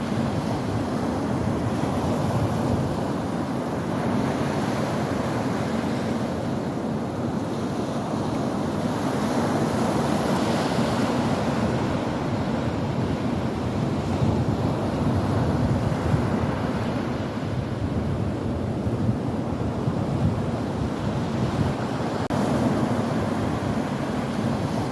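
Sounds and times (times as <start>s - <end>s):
ocean waves breaking on shore: 0.0s - 24.9s
wind buffeting microphone: 0.0s - 24.9s.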